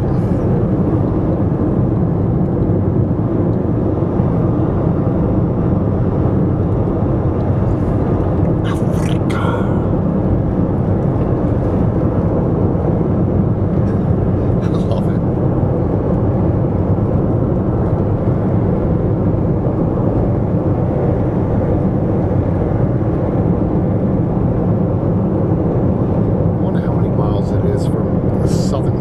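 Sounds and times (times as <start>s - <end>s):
car driving on paved road: 0.0s - 29.0s.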